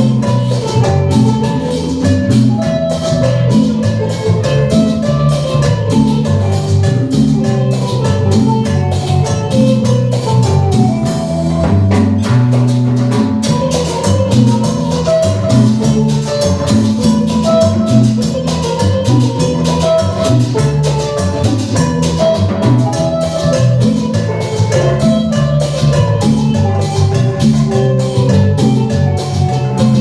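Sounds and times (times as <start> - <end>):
band playing dance music: 0.0 - 30.0.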